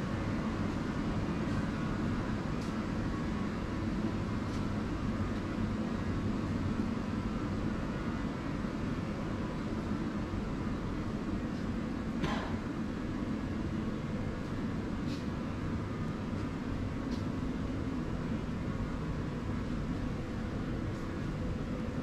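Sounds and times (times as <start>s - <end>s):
industrial machinery drone: 0.0s - 22.0s.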